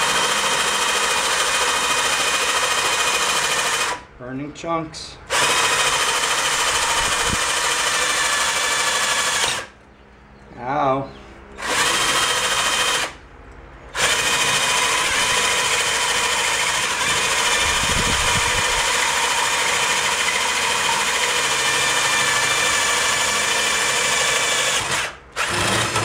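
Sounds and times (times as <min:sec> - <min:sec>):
cordless drill boring into metal: 0:00.0 - 0:04.0, 0:05.3 - 0:09.7, 0:11.6 - 0:13.2, 0:14.0 - 0:26.0.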